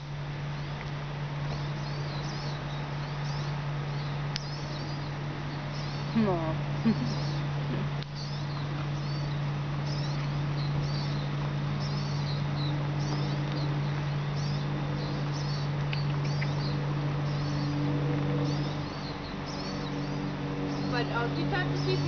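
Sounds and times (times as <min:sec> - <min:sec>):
steady low hum: 0:00.0 - 0:22.0
high-pitched chirping calls: 0:01.5 - 0:17.8, 0:18.4 - 0:22.0.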